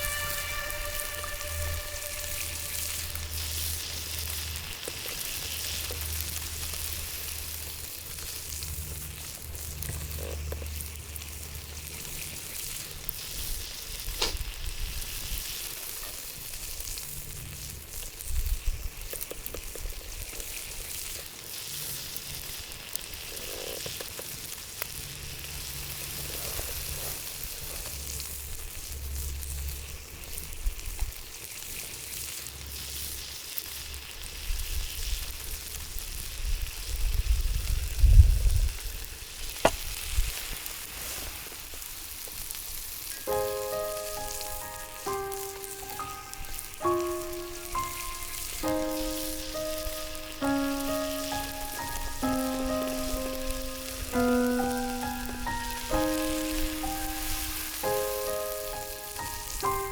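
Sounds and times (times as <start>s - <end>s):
steak sizzling in a frying pan: 0.0s - 59.9s.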